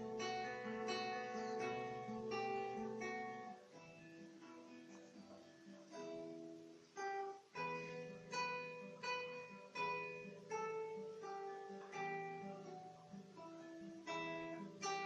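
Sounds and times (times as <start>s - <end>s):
classical guitar melody: 0.0s - 15.0s.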